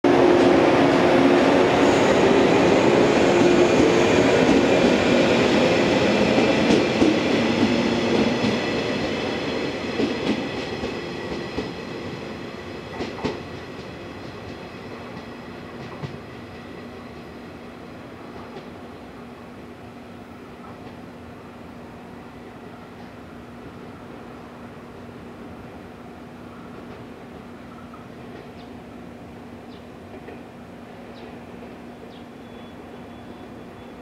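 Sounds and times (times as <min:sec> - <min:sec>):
train motor and wheel noise: 0:00.0 - 0:34.0.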